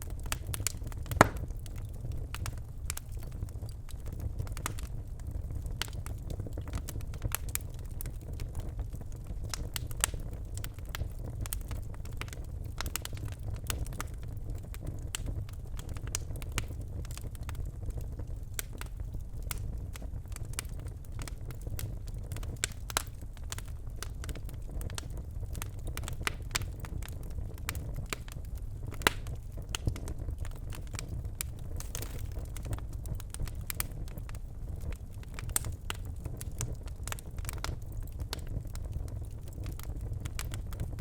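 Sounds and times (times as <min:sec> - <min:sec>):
logs burning with crackles and pops: 0:00.0 - 0:41.0
low rumble of flames: 0:00.0 - 0:41.0.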